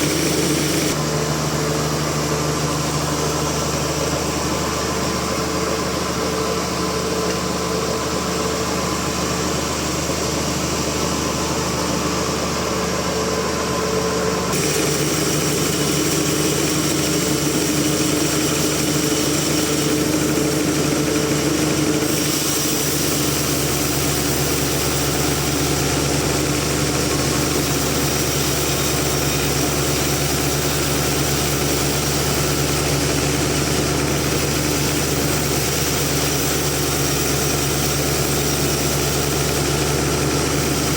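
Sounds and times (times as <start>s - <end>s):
sawmill machine running: 0.0s - 40.9s.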